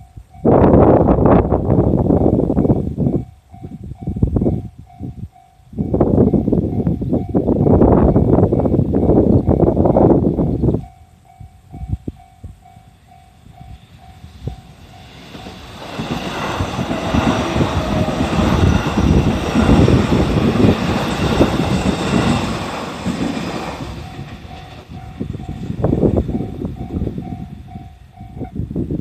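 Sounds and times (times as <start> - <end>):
level-crossing warning bell: 0.0 - 28.6
electric train passing: 0.0 - 29.0.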